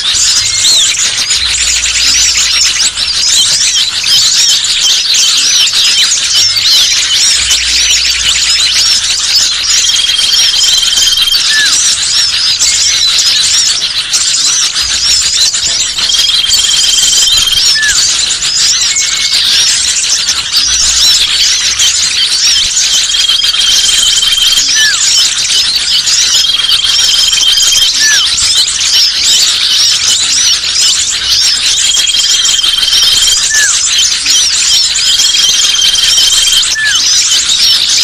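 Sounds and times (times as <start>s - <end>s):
small birds chirping and twittering: 0.0s - 38.0s.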